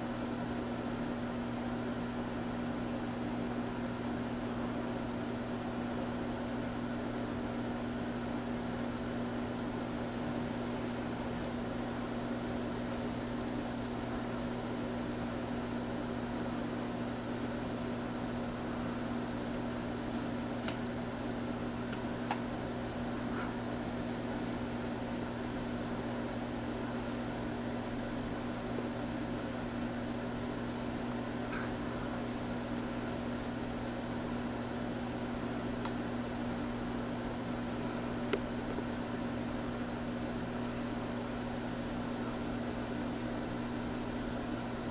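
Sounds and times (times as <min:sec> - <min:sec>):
low hum with hiss: 0:00.0 - 0:44.9.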